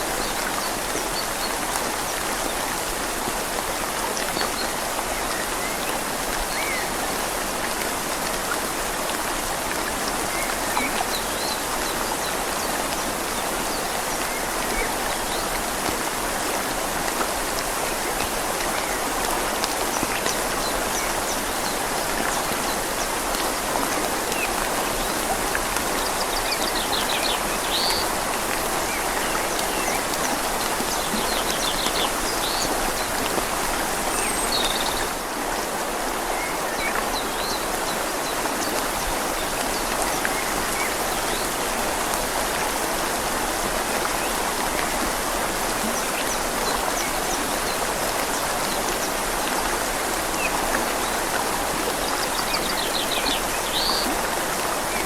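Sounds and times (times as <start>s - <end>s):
rain falling on leaves: 0.0s - 55.0s
river flowing: 0.0s - 55.0s.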